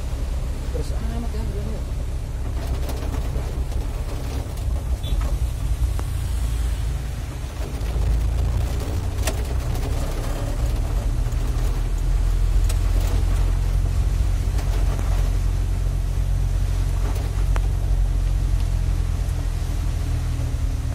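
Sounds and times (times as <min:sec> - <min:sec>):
tyres on wet road: 0:00.0 - 0:20.9
vehicle engine rumble: 0:00.0 - 0:20.9.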